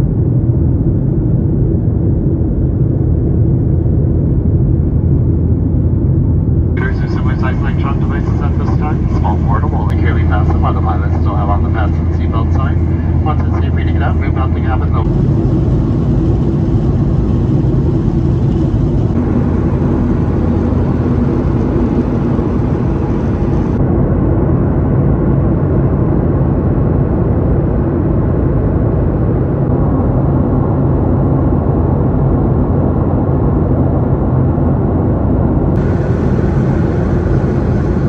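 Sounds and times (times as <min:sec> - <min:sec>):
aircraft cabin roar: 0:00.0 - 0:38.0
low hum: 0:00.0 - 0:38.0.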